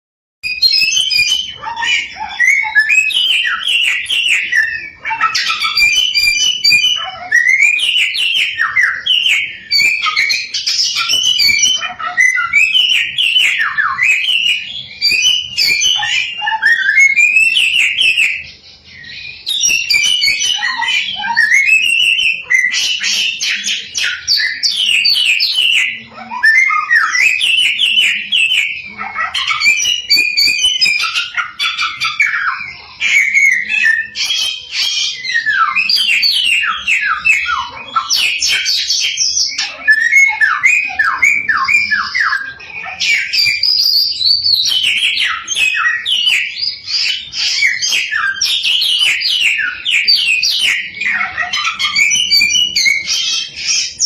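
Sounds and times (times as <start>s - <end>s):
songbird singing: 0.4s - 54.0s.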